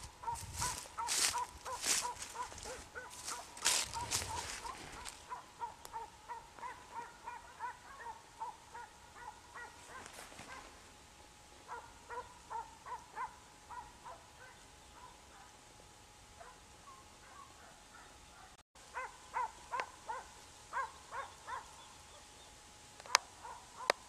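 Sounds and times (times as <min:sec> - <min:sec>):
distant hounds baying: 0:00.0 - 0:11.0, 0:11.6 - 0:15.6, 0:16.3 - 0:22.4, 0:23.0 - 0:24.0.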